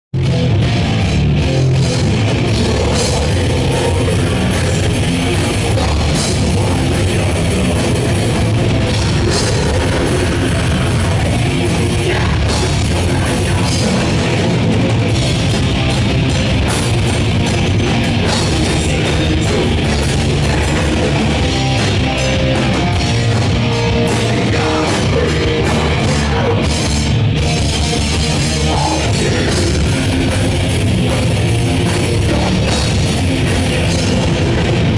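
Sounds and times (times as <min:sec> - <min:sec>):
drum kit: 0:00.2 - 0:34.9
electric guitars: 0:00.2 - 0:34.9.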